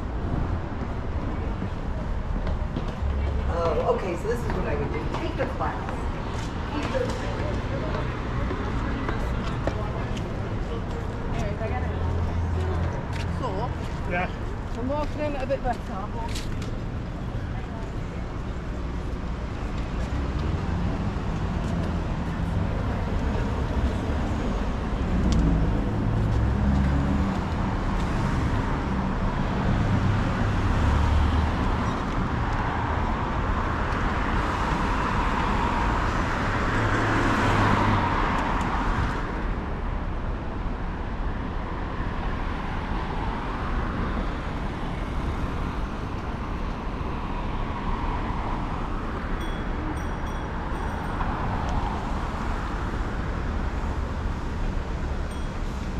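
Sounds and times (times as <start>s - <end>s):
road traffic noise: 0.0s - 55.9s.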